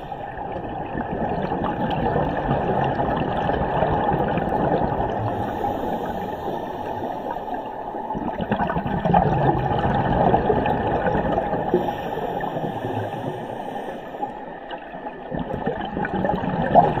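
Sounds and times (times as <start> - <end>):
underwater bubbles gurgling: 0.0 - 17.0.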